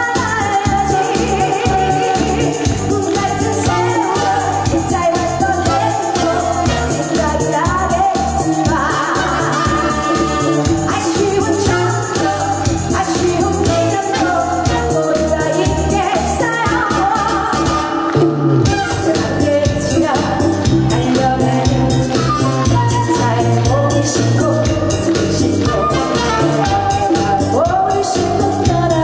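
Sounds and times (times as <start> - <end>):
band with trumpet and saxophones: 0.0 - 29.0
bass and drum beat: 0.0 - 29.0
woman singing into a microphone: 0.0 - 29.0.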